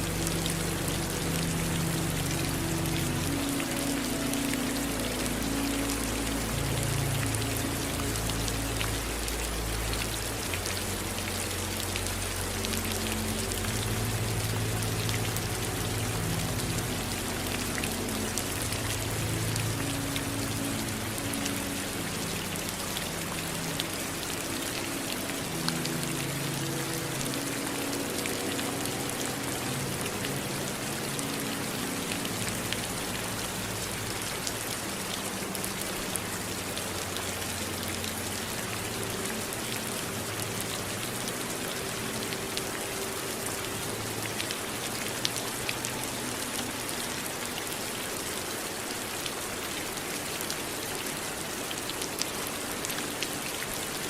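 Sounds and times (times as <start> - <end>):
raindrops ticking close by: 0.0 - 54.0
steady rain hiss: 0.0 - 54.0.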